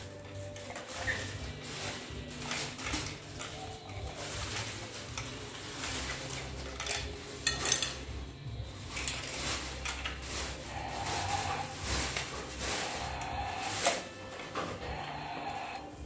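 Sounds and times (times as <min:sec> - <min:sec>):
plastic toys clacking together: 0:00.0 - 0:15.0.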